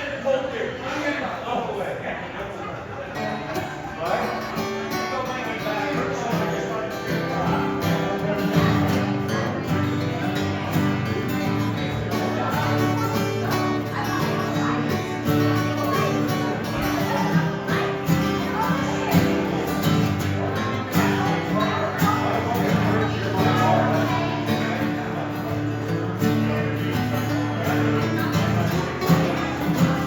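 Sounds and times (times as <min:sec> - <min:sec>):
strummed acoustic guitar: 0:03.1 - 0:30.0.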